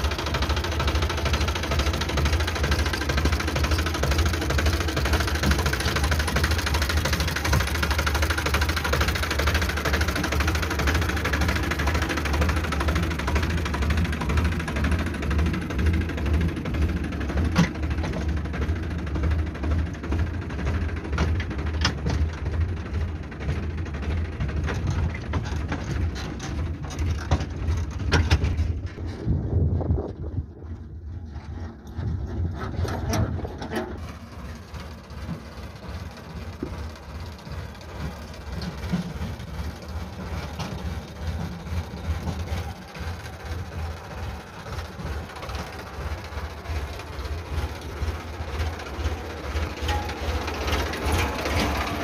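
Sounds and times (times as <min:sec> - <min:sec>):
sharp knocks and rattles: 0:00.0 - 0:52.0
tractor diesel engine rumbling: 0:00.0 - 0:52.0.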